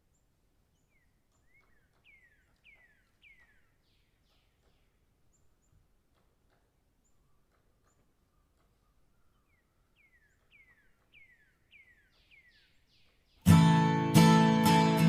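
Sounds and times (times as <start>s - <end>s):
high bird chirps: 0.1s - 5.8s, 7.0s - 13.8s.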